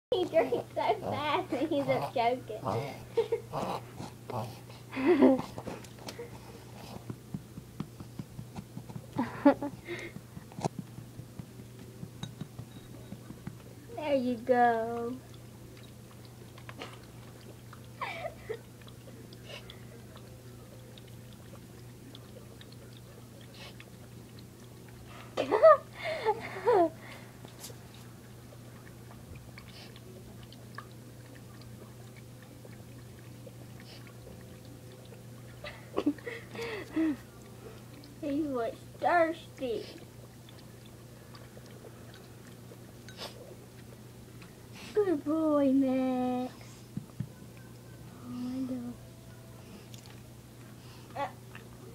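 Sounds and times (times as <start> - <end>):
dog lapping water: 0.2 - 13.9, 14.7 - 47.3.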